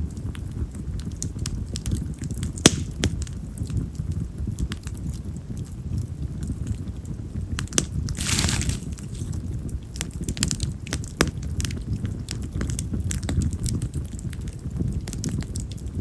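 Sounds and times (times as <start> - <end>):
campfire crackling and popping: 0.0 - 16.0
low steady noise: 0.0 - 16.0.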